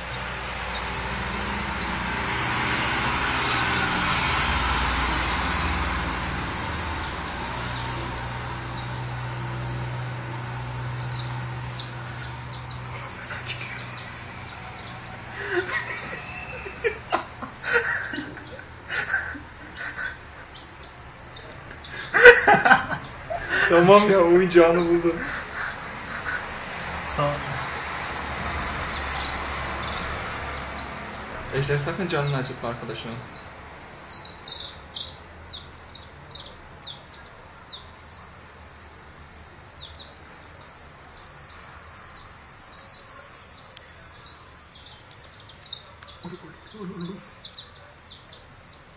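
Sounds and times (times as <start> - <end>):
baby chick peeping: 0.0 - 38.4, 39.7 - 48.9.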